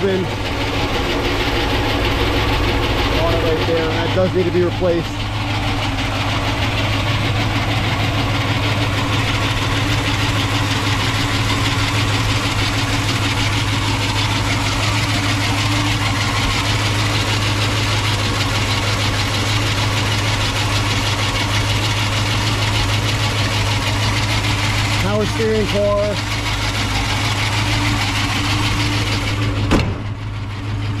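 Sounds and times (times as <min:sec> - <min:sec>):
alternator pulley noise: 0:00.0 - 0:31.0
car engine idling: 0:00.0 - 0:31.0.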